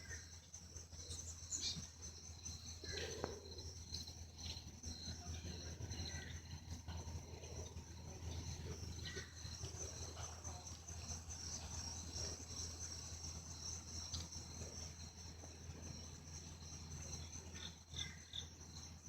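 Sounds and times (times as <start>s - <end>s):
insects chirping: 0.0s - 19.0s
low steady hum: 0.0s - 19.0s.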